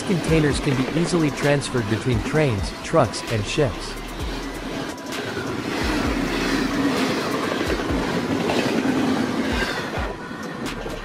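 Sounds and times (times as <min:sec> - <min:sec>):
train wheels clacking: 0:00.0 - 0:11.0
train wheels rumbling on rail: 0:00.0 - 0:11.0.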